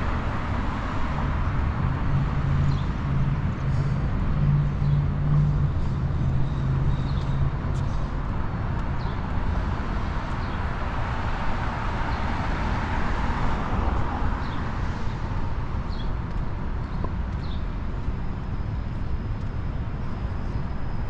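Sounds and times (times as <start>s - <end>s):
passing cars: 0.0s - 21.0s.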